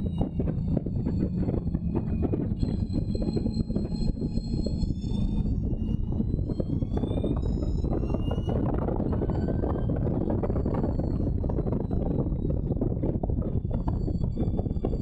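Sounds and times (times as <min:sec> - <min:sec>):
heavy wind rush: 0:00.0 - 0:15.0.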